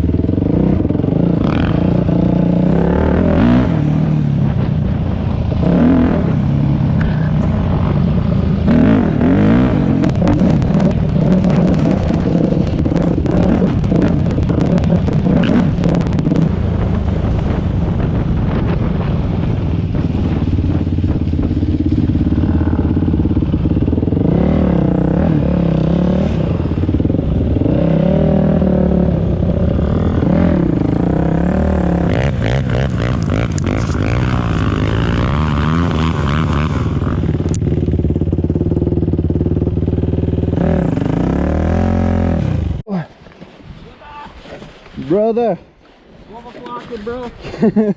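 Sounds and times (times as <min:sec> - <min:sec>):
dirt bike engine revving: 0:00.0 - 0:17.6, 0:18.4 - 0:42.8.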